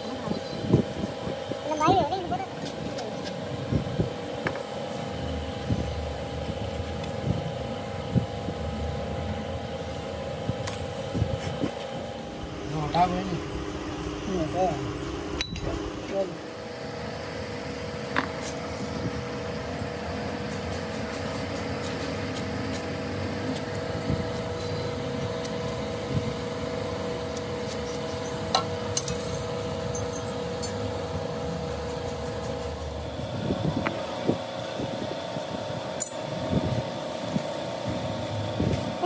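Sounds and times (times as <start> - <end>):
machine humming: 0.0 - 39.0.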